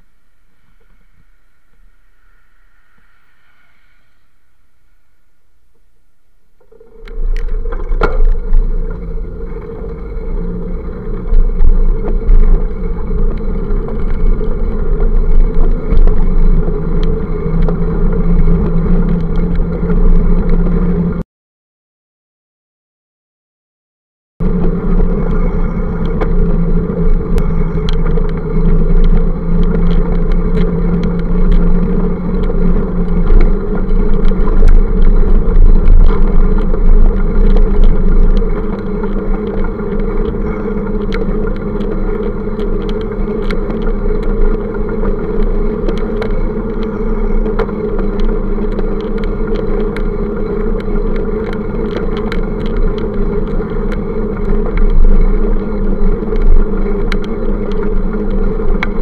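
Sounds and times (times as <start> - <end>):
motor traffic: 0.0 - 21.2, 24.4 - 59.0
wind and road rumble: 0.0 - 21.2, 24.4 - 59.0
small clicks and rattles: 6.6 - 21.2, 24.4 - 59.0.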